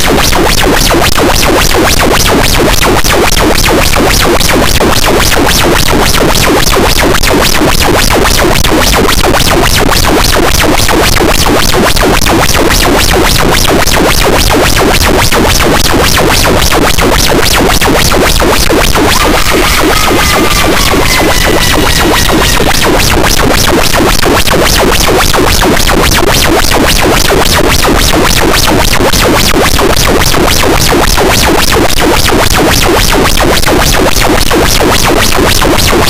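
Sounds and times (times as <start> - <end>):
dense distorted static: 0.0 - 36.0.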